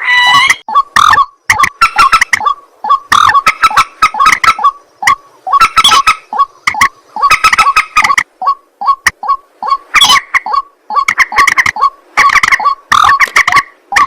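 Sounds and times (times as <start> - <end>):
birds croaking and clucking: 0.0 - 14.0.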